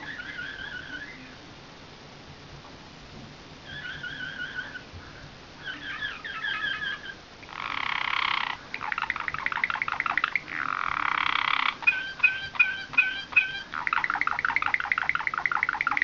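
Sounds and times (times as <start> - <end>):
canary singing with trills: 0.0 - 1.4, 3.6 - 16.0.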